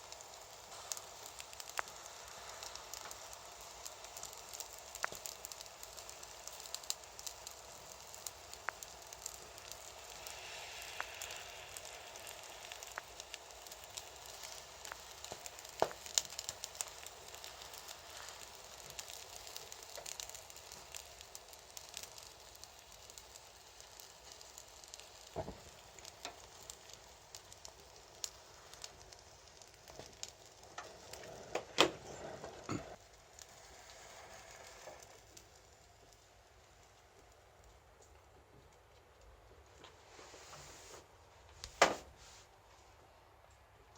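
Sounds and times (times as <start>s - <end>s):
meat sizzling on a grill: 0.0s - 38.0s
charcoal crackling and popping: 0.0s - 43.9s.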